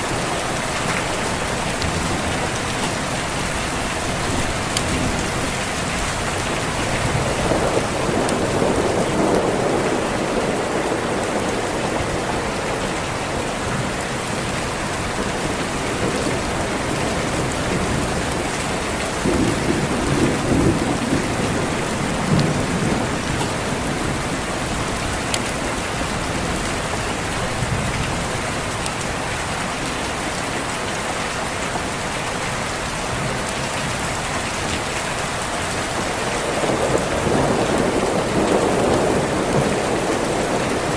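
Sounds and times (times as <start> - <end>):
thunder rumbling: 0.0 - 28.7, 35.3 - 40.9
heavy rain: 0.0 - 40.9.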